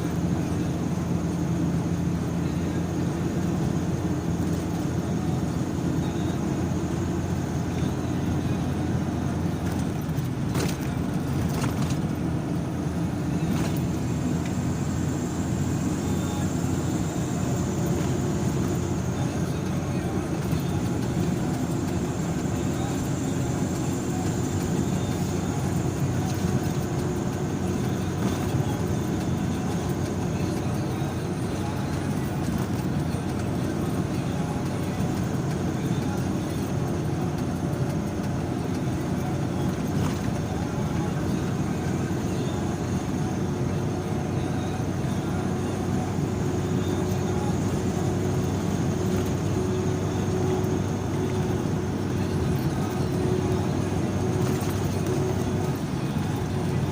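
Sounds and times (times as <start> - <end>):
car engine: 0.0 - 56.9
tyre noise on road: 0.0 - 56.9.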